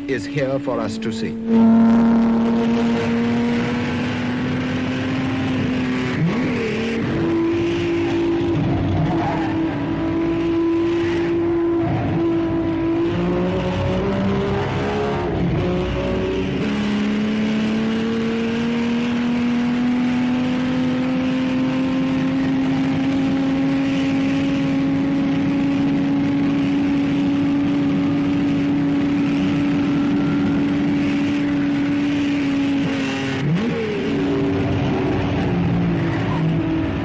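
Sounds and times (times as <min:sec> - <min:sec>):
race car engine at full throttle: 0:00.0 - 0:37.0.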